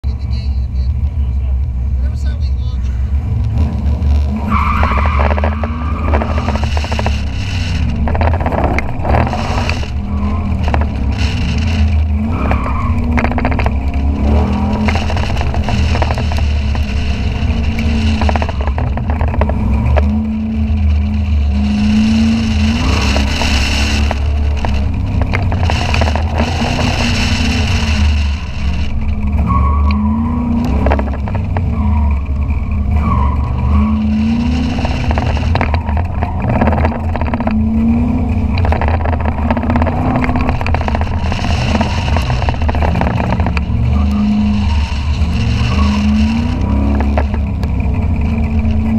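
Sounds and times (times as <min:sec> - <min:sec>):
car engine revving: 0:00.0 - 0:48.9
wind and road noise: 0:00.0 - 0:48.9.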